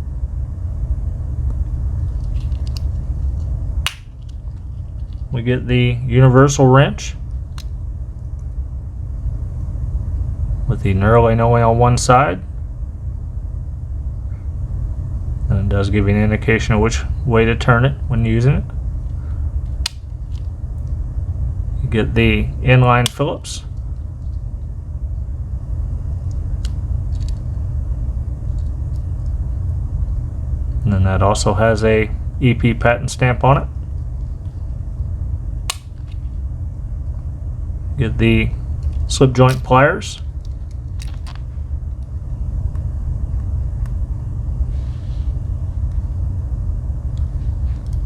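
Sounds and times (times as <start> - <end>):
low background rumble: 0.0 - 48.0.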